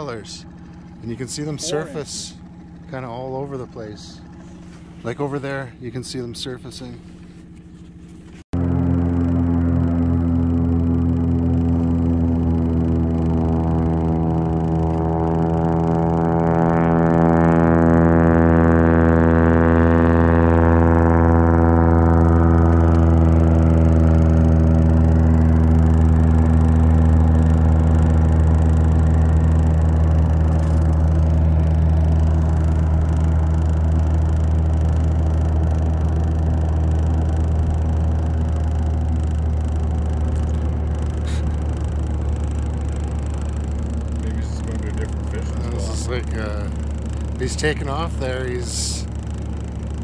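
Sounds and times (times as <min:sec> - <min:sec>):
propeller engine drone: 0:00.0 - 0:50.0.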